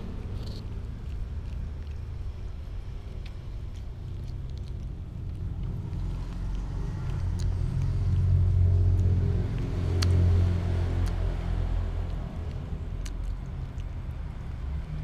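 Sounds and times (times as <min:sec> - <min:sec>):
cat chewing and licking: 0:00.0 - 0:15.0
faint wet clicks: 0:00.0 - 0:15.0
low steady rumble: 0:00.0 - 0:15.0.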